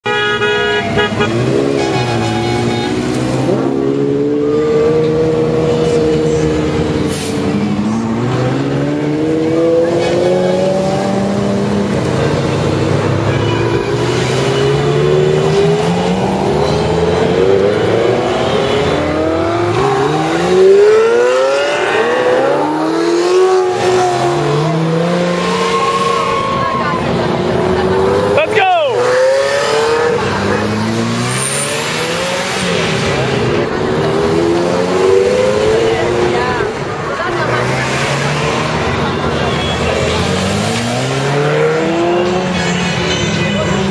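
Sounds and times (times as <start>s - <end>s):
sports cars revving past: 0.4s - 43.9s.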